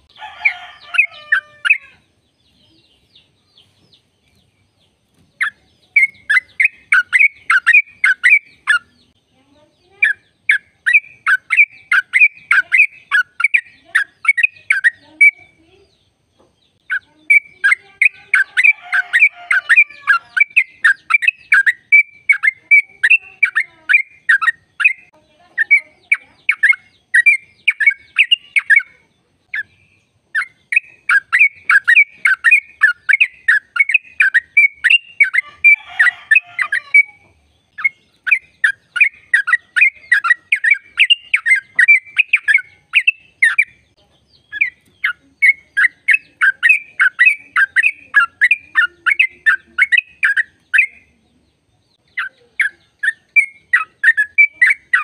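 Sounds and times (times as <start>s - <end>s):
harsh bird chattering: 0.0s - 2.1s, 5.3s - 16.1s, 16.7s - 55.0s
bird song of sharp chirps: 0.0s - 55.0s.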